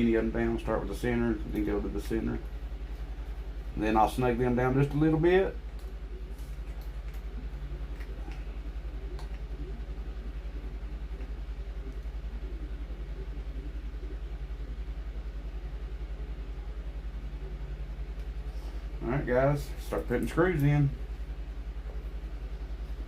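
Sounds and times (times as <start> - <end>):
low pulsing machine hum: 0.0 - 23.0.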